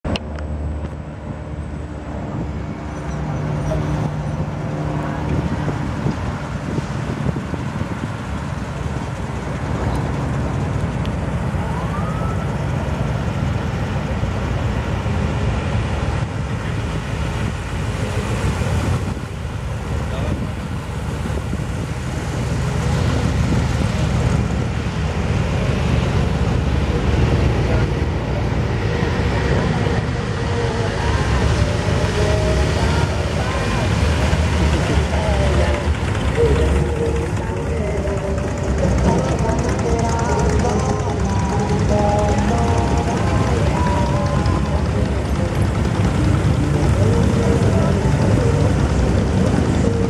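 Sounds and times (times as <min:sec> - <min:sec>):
cars driving slowly past: 0:00.0 - 0:50.0.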